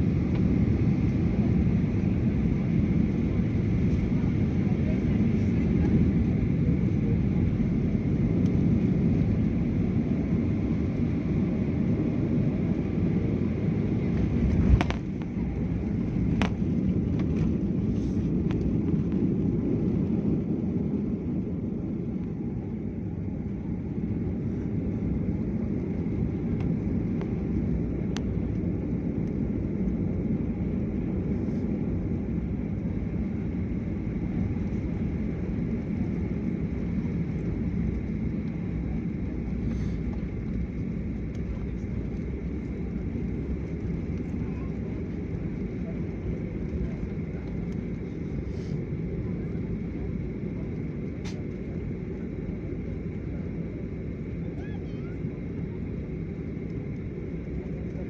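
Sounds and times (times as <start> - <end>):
engine and airflow rumble: 0.0 - 58.0.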